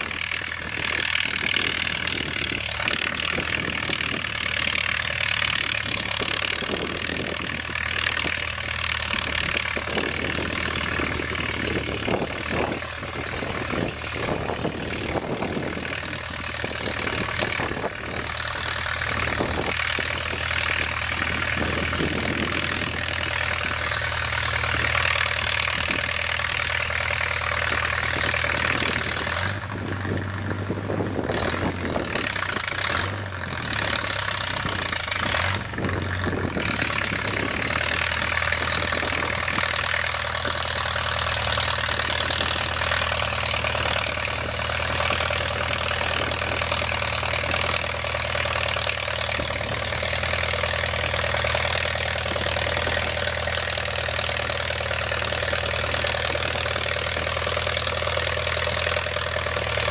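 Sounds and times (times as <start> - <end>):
distant tractor engine running: 0.0 - 59.9.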